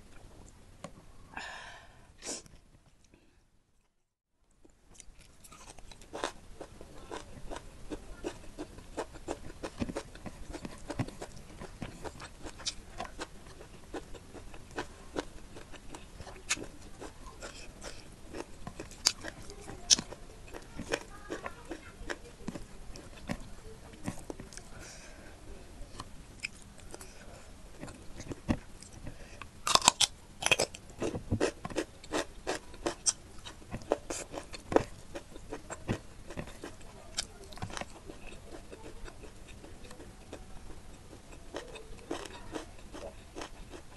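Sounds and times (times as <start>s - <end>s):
chewing and wet mouth sounds: 4.5s - 24.7s, 27.7s - 43.9s.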